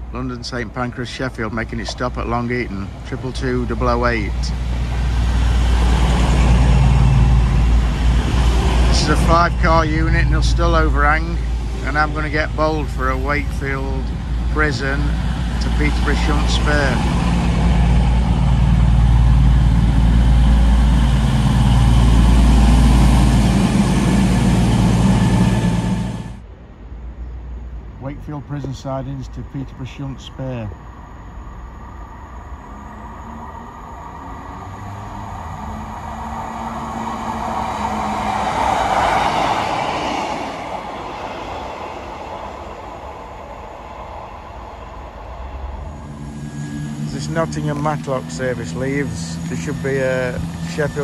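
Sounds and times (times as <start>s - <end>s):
diesel train engines droning: 0.0s - 51.0s
wheels rumbling on rails: 0.0s - 51.0s.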